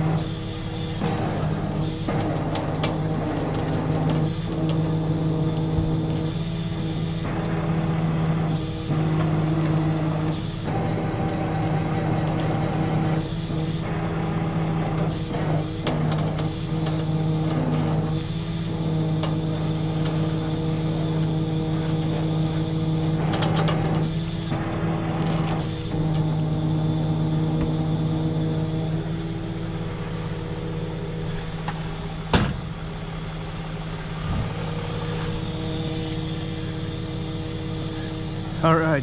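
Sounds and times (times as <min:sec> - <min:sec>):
truck engine humming: 0:00.0 - 0:39.0
winch pulling under load: 0:00.0 - 0:39.0.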